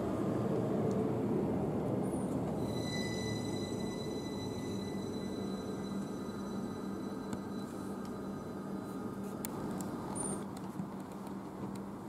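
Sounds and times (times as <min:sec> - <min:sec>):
electric train humming: 0:00.0 - 0:10.2.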